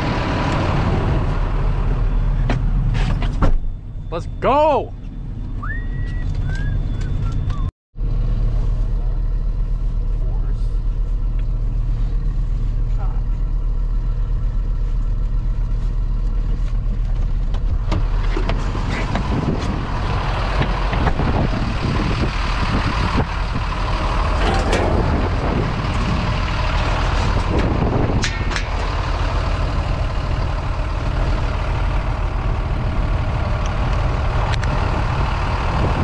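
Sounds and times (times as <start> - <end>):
truck engine rumbling: 0.0 - 36.0.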